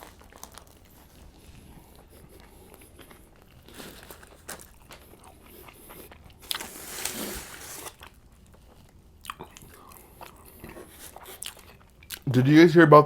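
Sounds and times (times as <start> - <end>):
biting and chewing sandwich: 0.0 - 12.3.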